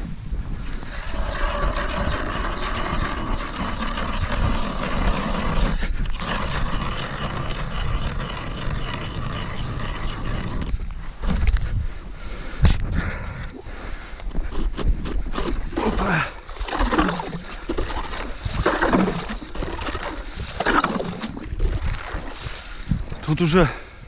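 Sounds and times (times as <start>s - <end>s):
ice auger grinding drone: 0.7s - 11.6s, 14.2s - 23.4s.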